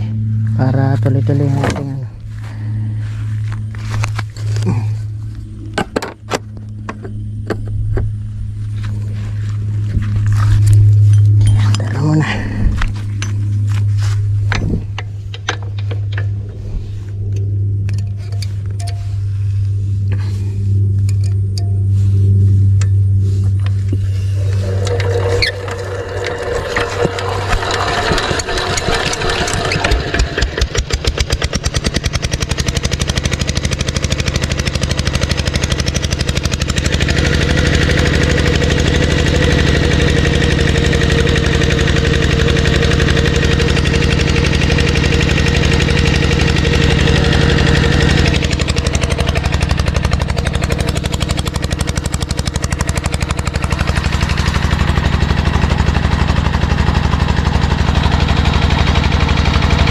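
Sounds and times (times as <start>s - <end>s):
diesel engine driving water pump: 0.0s - 59.9s.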